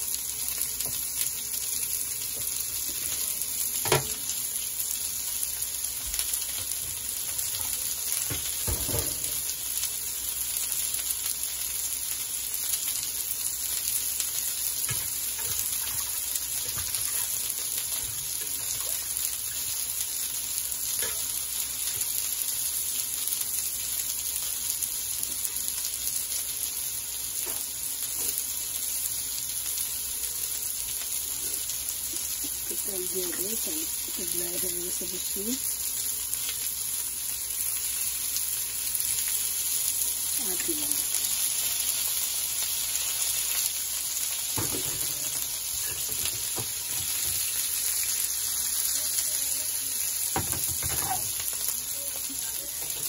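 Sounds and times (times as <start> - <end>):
kebabs sizzling in oil: 0.0 - 53.0.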